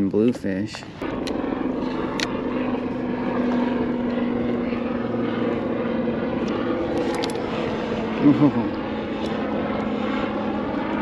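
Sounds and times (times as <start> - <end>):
motor drone: 0.8 - 11.0.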